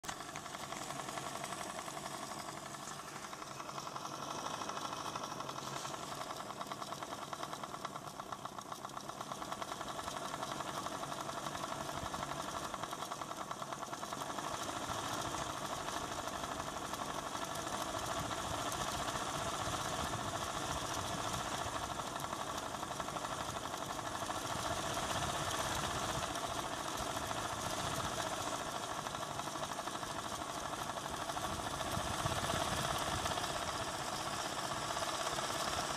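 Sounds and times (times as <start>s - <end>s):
computer fan whirring and rattling: 0.1s - 35.9s.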